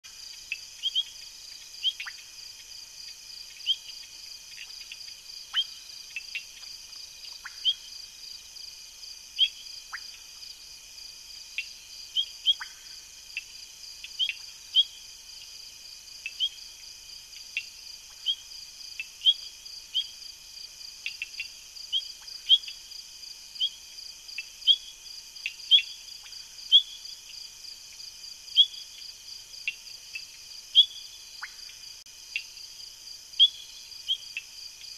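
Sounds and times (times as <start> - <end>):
night insects chorus: 0.1 - 34.9.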